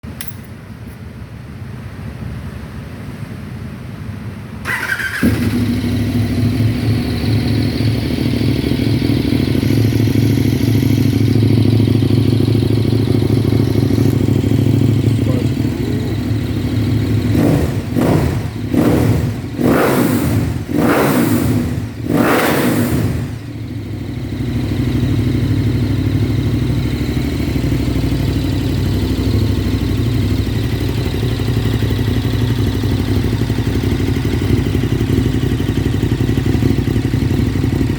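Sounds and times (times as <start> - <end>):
motorcycle engine idling and revving: 0.0 - 37.9
motorcycle engine starting: 4.5 - 37.9.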